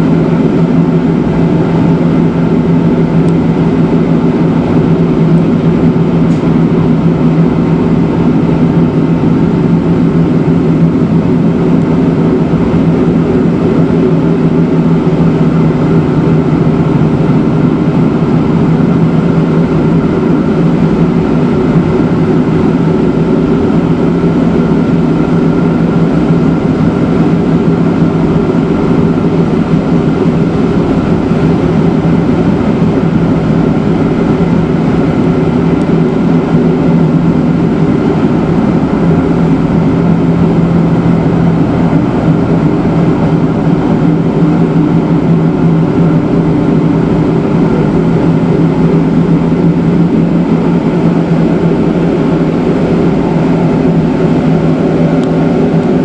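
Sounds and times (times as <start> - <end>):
electric rack railway train running: 0.0 - 56.0.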